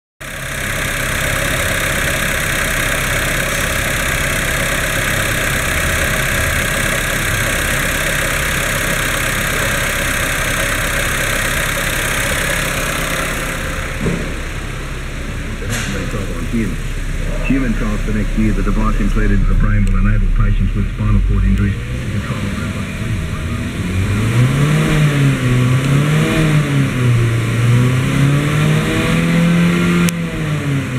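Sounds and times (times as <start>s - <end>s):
car engine idling: 0.2s - 30.9s.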